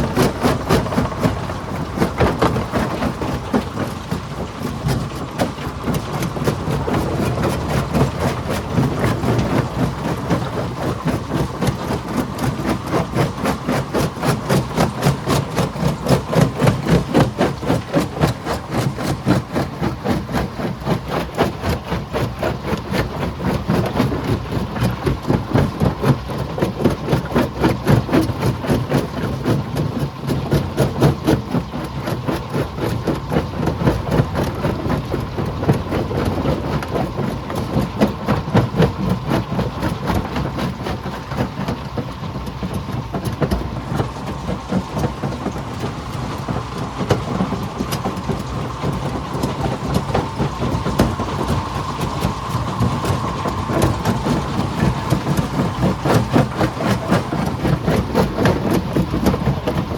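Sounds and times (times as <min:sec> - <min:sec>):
stone crusher grinding and pounding: 0:00.0 - 0:59.9.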